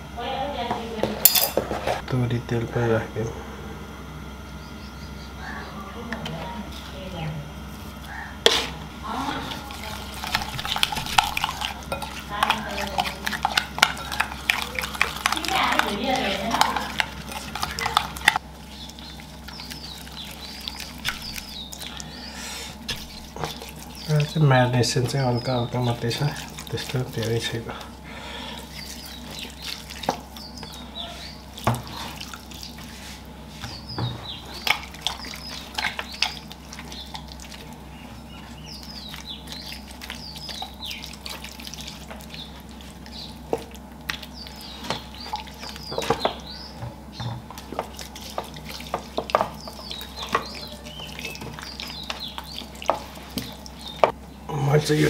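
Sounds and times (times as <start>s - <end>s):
hands squelching on raw chicken: 7.9s - 24.4s, 25.1s - 54.2s.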